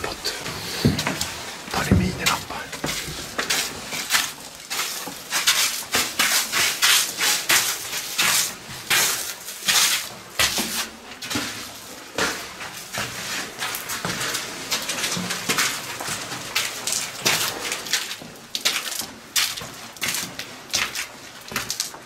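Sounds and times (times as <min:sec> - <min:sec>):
footsteps crunching on gritty floor: 0:00.0 - 0:22.0.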